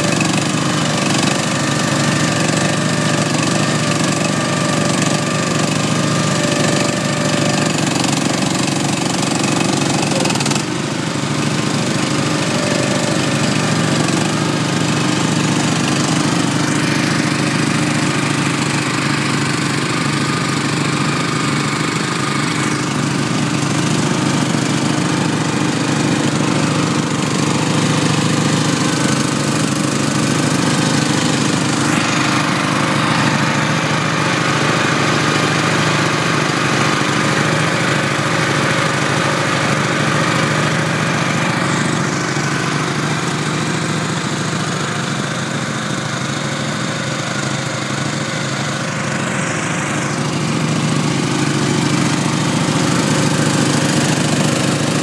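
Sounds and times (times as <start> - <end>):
small petrol engine running: 0.0 - 55.0.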